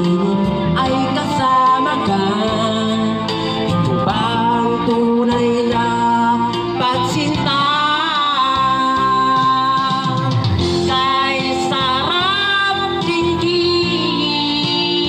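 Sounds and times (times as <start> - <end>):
backing music: 0.0 - 15.0
man singing into microphone: 0.0 - 15.0.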